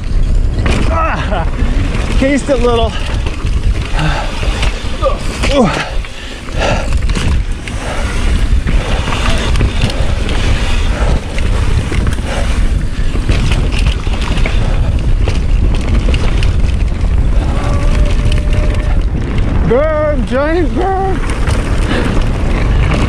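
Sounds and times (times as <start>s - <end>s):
bike knocks and rattles: 0.0s - 23.0s
wind rushing over microphone: 0.0s - 23.0s.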